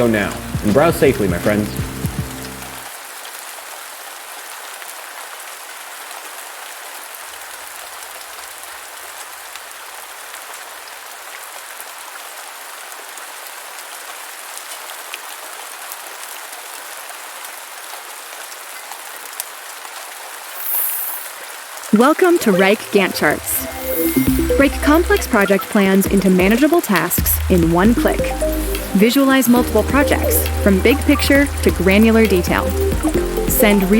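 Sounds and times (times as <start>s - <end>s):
rain falling on a surface: 0.0s - 33.9s.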